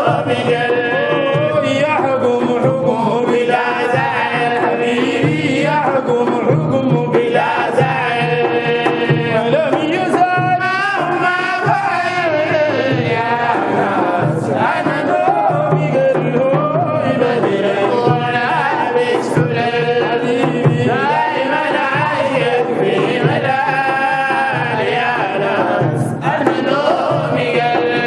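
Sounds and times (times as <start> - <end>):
repeating hand-drum beat: 0.0 - 28.0
voices singing praise song: 0.0 - 28.0.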